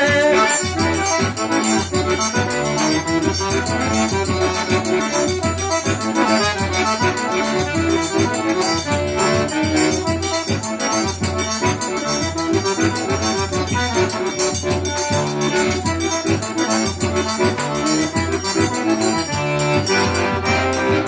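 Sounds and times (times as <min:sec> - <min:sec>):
accordion melody: 0:00.0 - 0:21.0
bass line: 0:00.0 - 0:21.0
percussion beat: 0:00.0 - 0:21.0.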